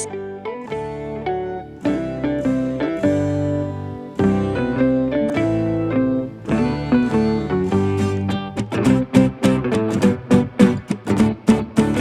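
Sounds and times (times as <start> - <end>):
plucked string music: 0.0 - 12.0.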